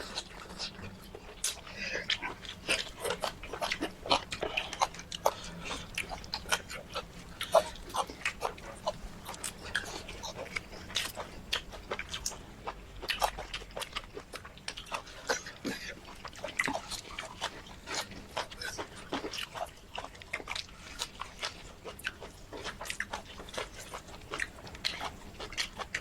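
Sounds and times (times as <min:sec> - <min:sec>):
chewing with lip smacks: 0:00.0 - 0:26.0.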